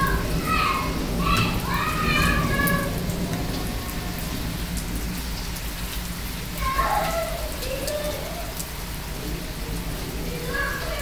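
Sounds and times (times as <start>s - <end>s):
rain on paving and rooftops: 0.0s - 11.0s
raindrops ticking: 0.0s - 11.0s.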